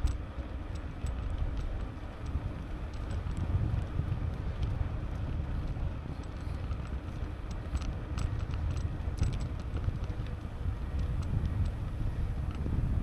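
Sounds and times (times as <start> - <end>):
faint light ticks: 0.0 - 12.8
wind rumbling on microphone: 0.0 - 13.0.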